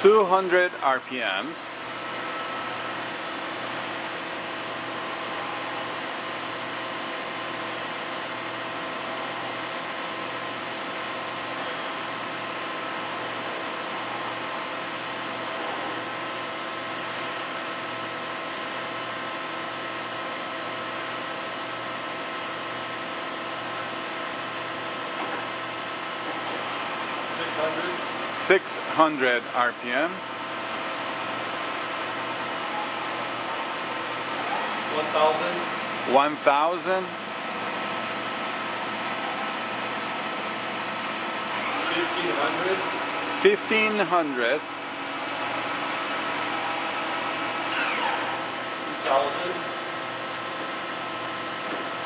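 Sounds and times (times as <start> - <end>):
machining center whir and hum: 0.0 - 52.0.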